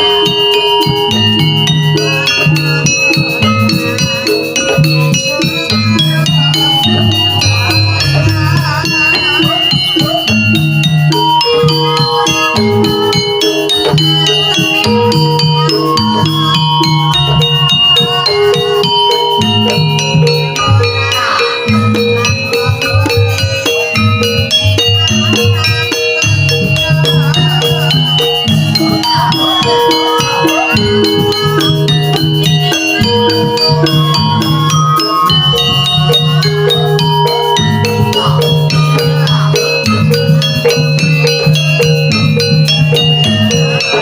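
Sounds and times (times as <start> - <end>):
gamelan music: 0.0 - 44.0
metal gong-chime notes: 0.0 - 44.0
wavering higher melody: 0.0 - 44.0.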